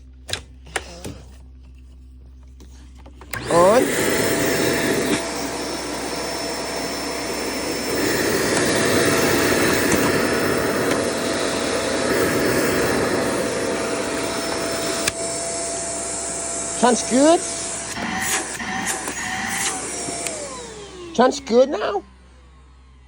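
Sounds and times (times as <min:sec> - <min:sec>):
vacuum cleaner running: 0:02.6 - 0:23.0.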